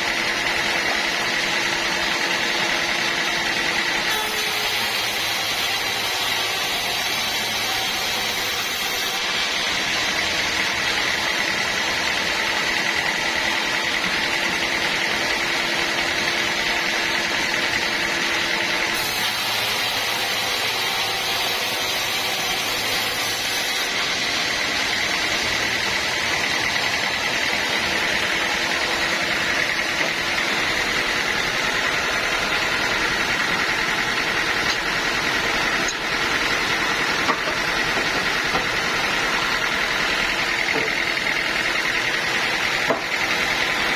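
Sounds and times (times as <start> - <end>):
sawmill machinery running: 0.0 - 43.9.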